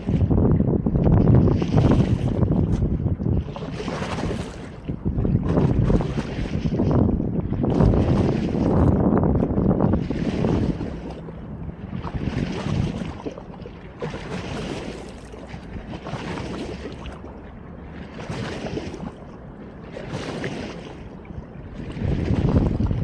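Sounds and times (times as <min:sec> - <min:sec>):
wind rumble on microphone: 0:00.0 - 0:23.0
small waves washing in: 0:01.4 - 0:23.0.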